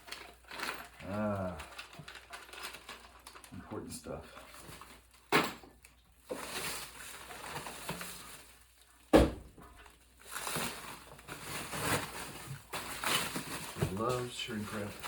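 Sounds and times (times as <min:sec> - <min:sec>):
cardboard and plastic wrap crinkling: 0:00.0 - 0:15.0.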